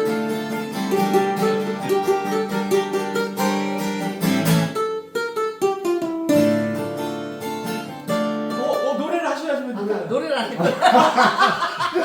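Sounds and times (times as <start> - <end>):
acoustic guitar strumming: 0.0 - 9.7.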